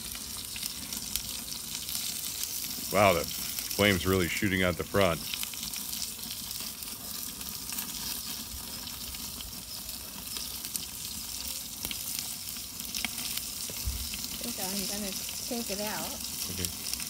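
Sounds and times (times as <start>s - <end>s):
low rumble of oven flame: 0.0s - 17.0s
steak sizzling: 0.0s - 17.0s
fat popping and crackling: 0.2s - 17.0s.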